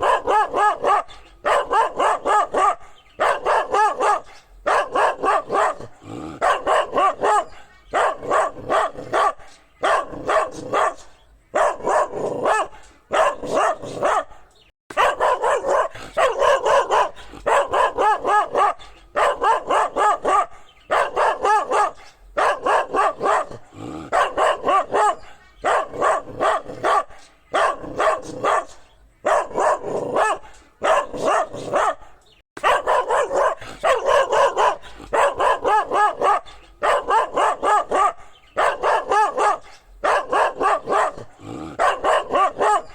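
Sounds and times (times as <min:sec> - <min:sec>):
dog barking: 0:00.0 - 0:42.9.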